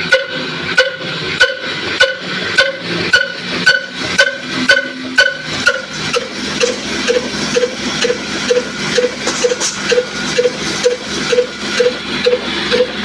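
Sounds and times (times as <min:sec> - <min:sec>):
flour mill hum: 0:00.0 - 0:13.0
stationary diesel engine running: 0:00.0 - 0:13.0.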